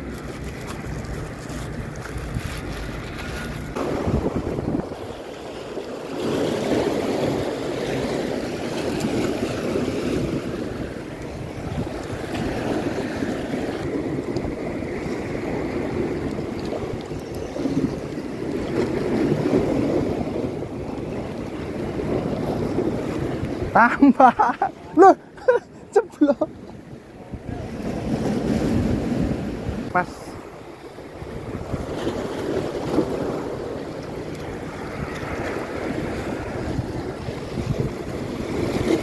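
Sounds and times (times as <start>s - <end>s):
waves washing against rocks: 0.0s - 39.0s
wind buffeting microphone: 0.0s - 39.0s.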